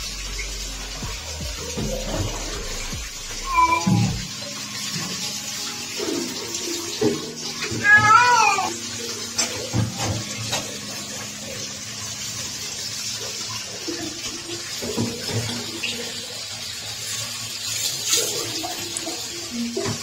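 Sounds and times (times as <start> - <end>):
tap water running: 0.0 - 20.0.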